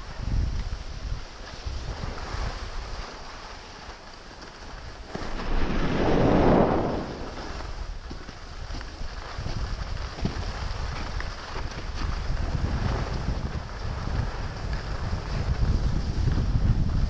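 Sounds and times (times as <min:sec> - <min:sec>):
skis scraping over snow: 0:00.0 - 0:17.0
wind buffeting microphone: 0:00.0 - 0:17.0.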